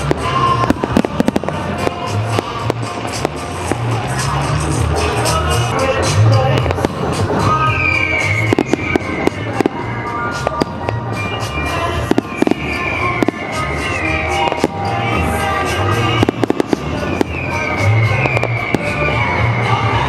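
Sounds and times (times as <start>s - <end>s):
fireworks bursting and crackling: 0.0s - 20.0s
music playing: 0.0s - 20.0s.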